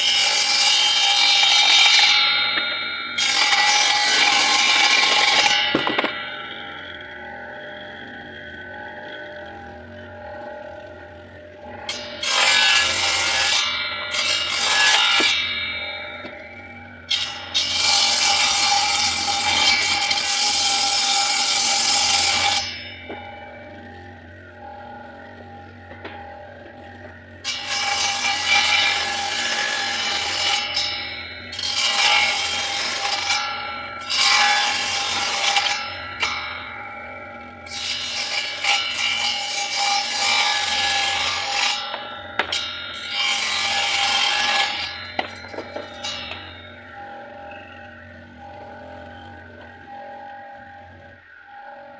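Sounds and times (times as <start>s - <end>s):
circular saw cutting: 0.0s - 8.2s, 11.6s - 51.9s
saw blade whine: 0.0s - 51.9s.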